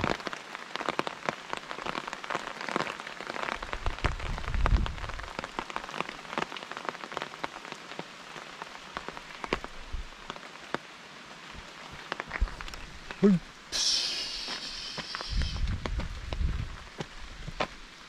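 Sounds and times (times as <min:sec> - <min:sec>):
rain hiss: 0:00.0 - 0:18.0.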